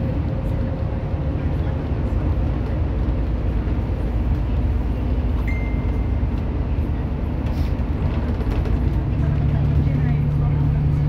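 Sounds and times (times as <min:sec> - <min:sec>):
engine and tyre rumble in cabin: 0:00.0 - 0:11.0.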